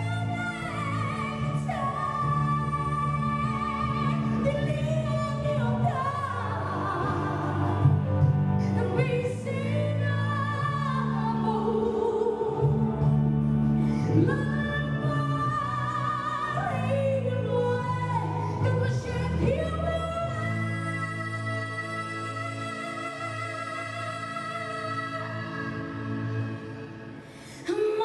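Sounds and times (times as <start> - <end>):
woman singing gospel song: 0.0 - 28.0.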